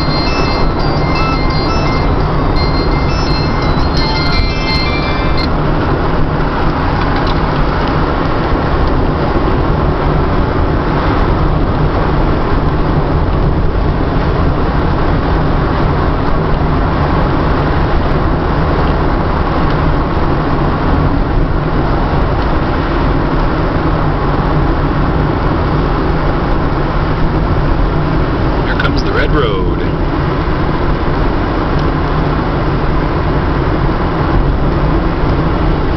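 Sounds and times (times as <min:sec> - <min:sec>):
car driving on highway: 0:05.3 - 0:35.9.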